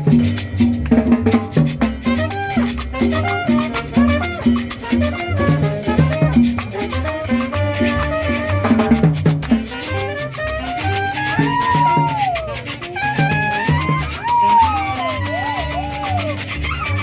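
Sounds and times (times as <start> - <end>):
salsa dance music: 0.0 - 17.0.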